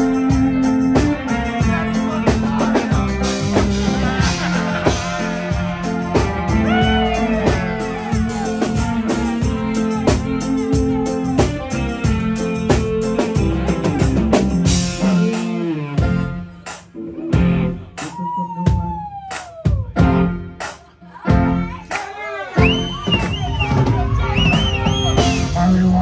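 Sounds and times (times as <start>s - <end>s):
live reggae band playing: 0.0s - 26.0s.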